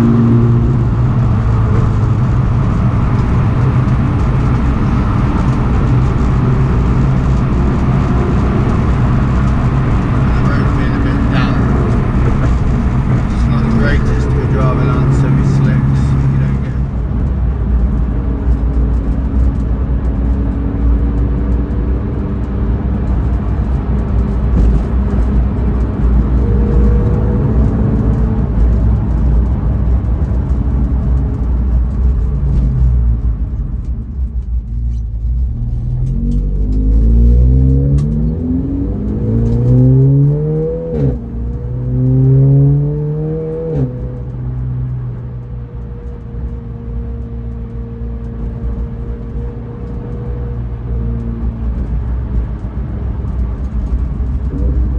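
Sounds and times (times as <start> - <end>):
race car engine drone: 0.0 - 54.9
road noise: 0.0 - 54.9.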